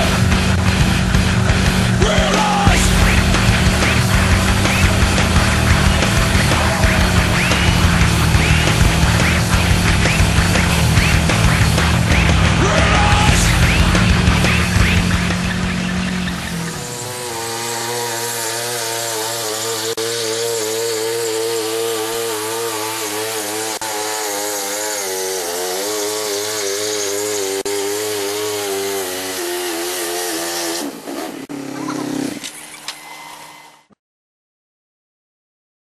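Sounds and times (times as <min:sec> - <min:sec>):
motorcycle engine at high revs: 0:00.0 - 0:32.9.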